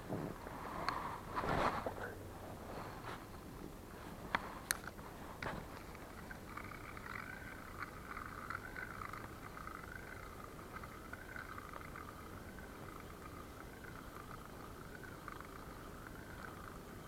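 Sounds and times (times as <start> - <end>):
frogs croaking: 2.0 - 17.0.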